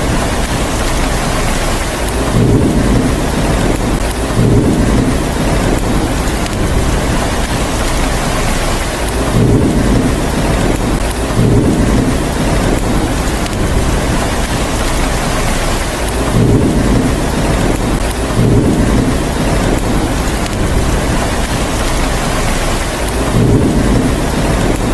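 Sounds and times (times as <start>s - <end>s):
heavy rain hissing: 0.0s - 24.9s
thunder rumbles: 0.0s - 24.9s.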